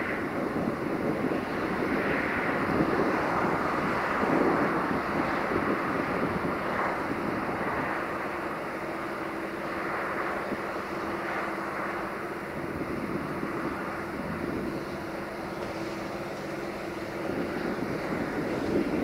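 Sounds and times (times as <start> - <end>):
locomotive engine droning: 0.0 - 19.0.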